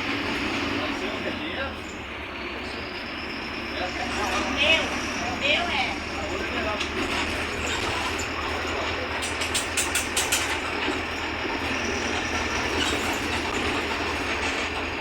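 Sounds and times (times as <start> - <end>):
bus diesel engine running: 0.0 - 15.0
road and body rumble: 0.0 - 15.0.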